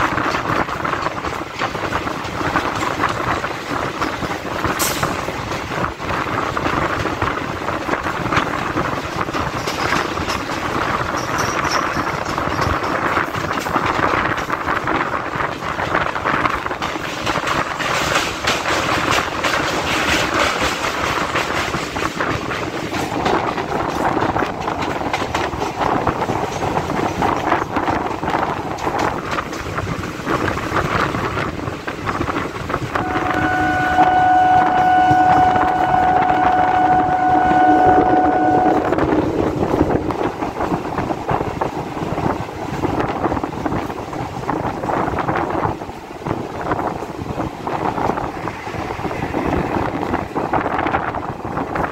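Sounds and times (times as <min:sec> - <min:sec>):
train wheels clattering over rails: 0:00.0 - 0:34.0, 0:38.0 - 0:51.9
steady rushing noise: 0:00.0 - 0:51.9.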